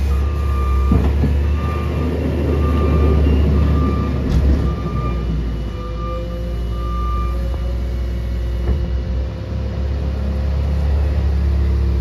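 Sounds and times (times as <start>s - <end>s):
loader diesel engine running: 0.0s - 12.0s.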